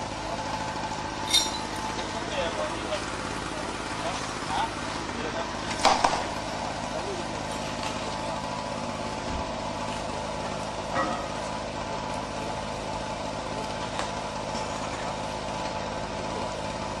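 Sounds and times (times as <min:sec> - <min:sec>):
vehicle engine idling hum: 0:00.0 - 0:17.0.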